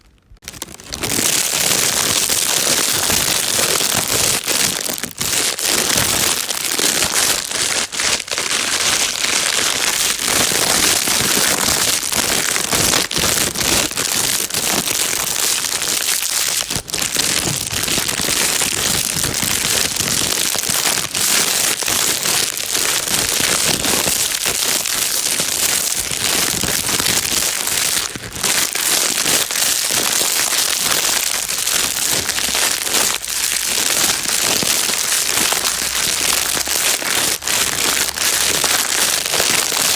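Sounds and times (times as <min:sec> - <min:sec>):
plastic bag crinkling: 0:00.0 - 0:39.9.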